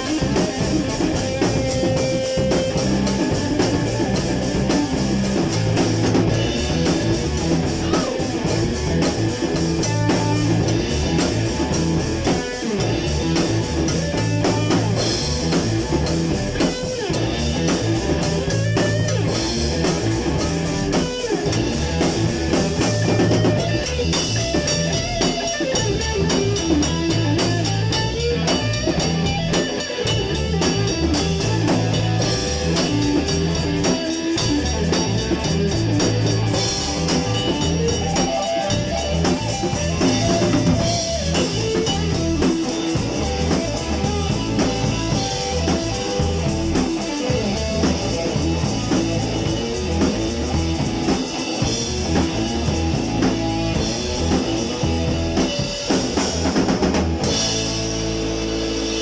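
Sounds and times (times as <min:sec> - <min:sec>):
rock music with guitar and drums: 0:00.0 - 0:59.0.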